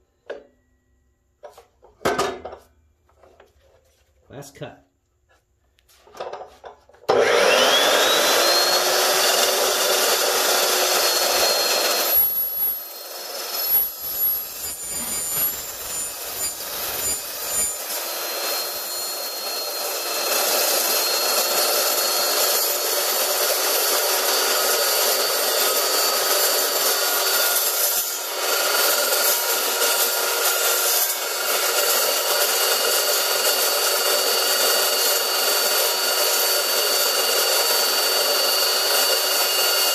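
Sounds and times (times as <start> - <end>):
chop saw whine: 6.2 - 39.9
saw blade grinding metal: 7.1 - 39.9.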